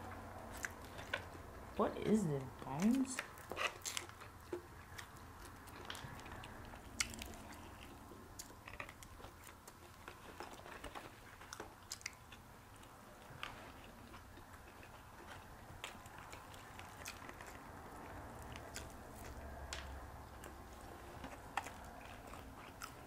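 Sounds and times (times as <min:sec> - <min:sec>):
chewing crispy fried chicken: 0:00.0 - 0:23.0.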